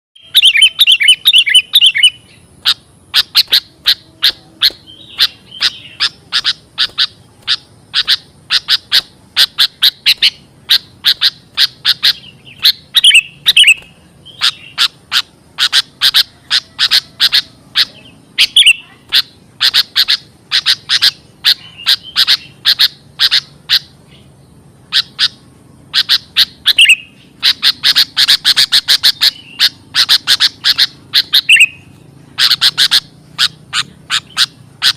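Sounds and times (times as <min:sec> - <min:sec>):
bird chirping and warbling: 0:00.2 - 0:34.9.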